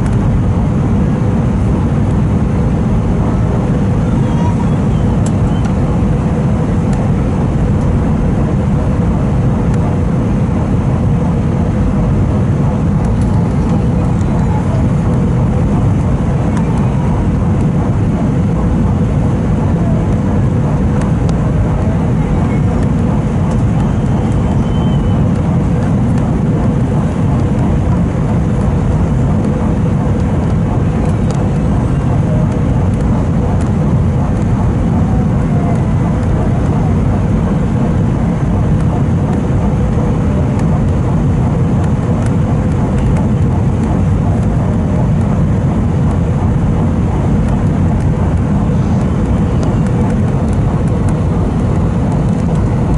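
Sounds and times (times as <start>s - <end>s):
aircraft engines roaring: 0.0s - 52.9s
faint steady hum: 0.0s - 52.9s.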